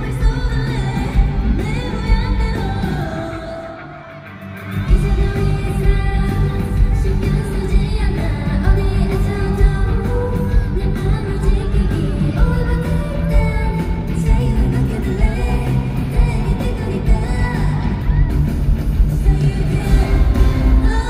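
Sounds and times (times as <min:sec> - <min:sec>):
female vocals: 0:00.0 - 0:21.0
pop song over loudspeakers: 0:00.0 - 0:21.0.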